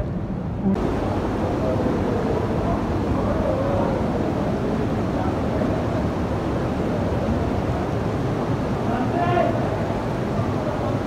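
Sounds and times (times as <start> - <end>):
waterfall and stream rushing: 0.8 - 11.0.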